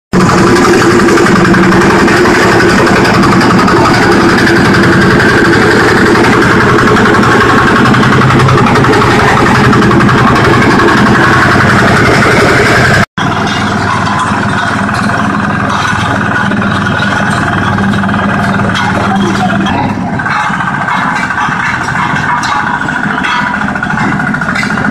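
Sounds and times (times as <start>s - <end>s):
road roller engine running: 0.1s - 24.9s.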